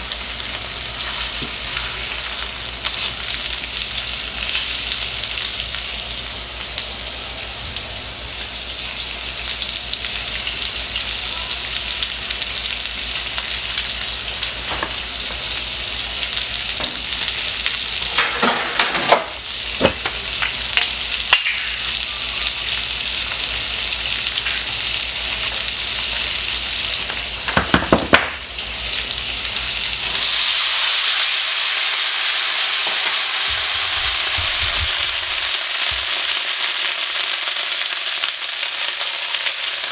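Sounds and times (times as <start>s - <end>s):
chicken frying in oil: 0.0s - 39.9s.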